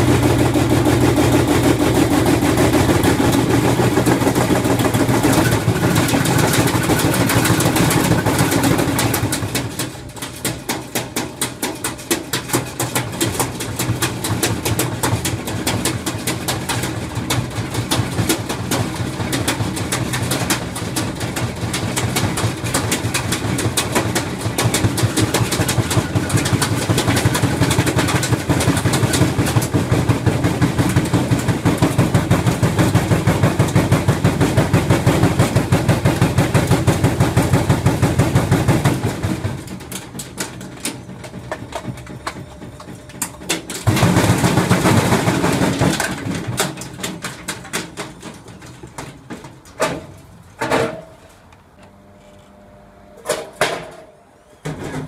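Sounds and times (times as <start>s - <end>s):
washing machine drum banging: 0.0s - 51.2s.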